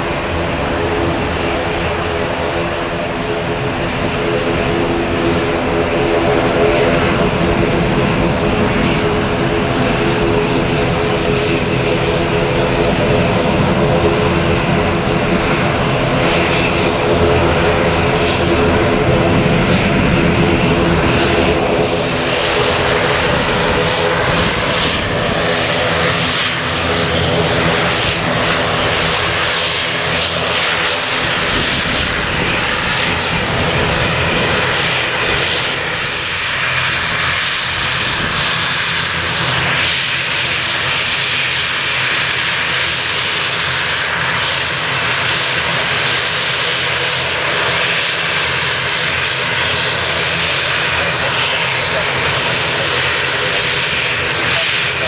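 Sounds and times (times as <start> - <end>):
airliner engines running: 0.0 - 55.0.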